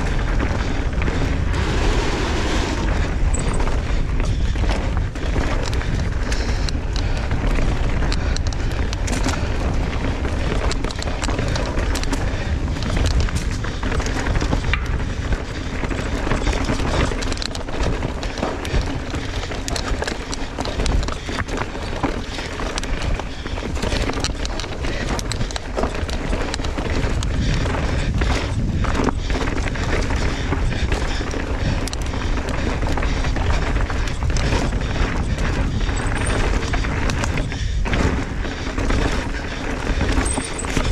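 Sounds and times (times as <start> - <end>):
bike rattling over rough ground: 0.0 - 40.9
wind rush on microphone: 0.0 - 40.9.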